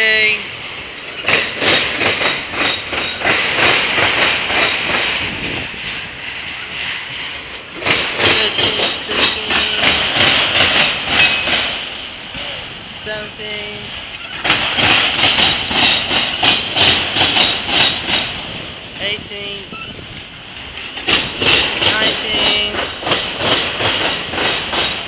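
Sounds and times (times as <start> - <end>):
freight train wheels clattering: 0.1 - 25.0.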